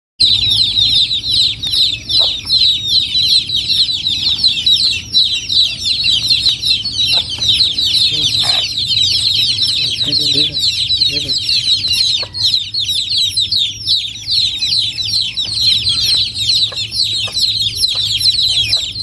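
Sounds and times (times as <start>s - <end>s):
chicks peeping: 0.2s - 19.0s
low clucks: 1.4s - 19.0s.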